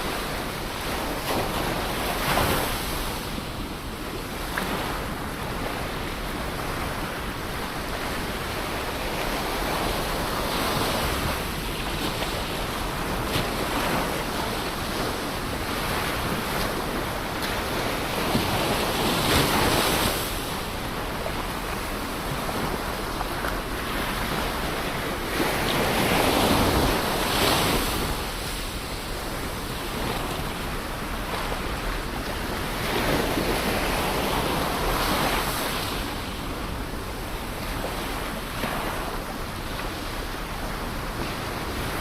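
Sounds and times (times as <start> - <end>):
ocean waves breaking: 0.0 - 42.0.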